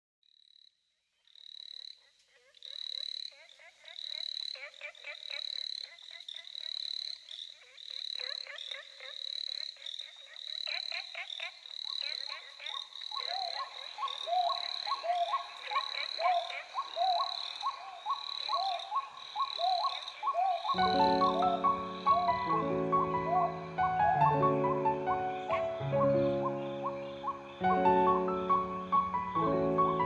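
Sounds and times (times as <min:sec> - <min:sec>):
frogs croaking in trills: 0:00.3 - 0:30.0.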